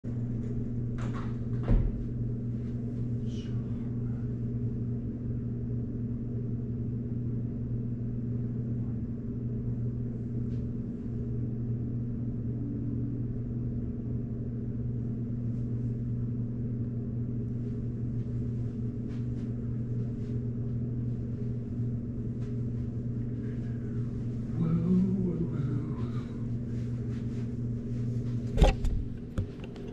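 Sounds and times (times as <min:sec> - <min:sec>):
low machine hum: 0:00.0 - 0:29.9.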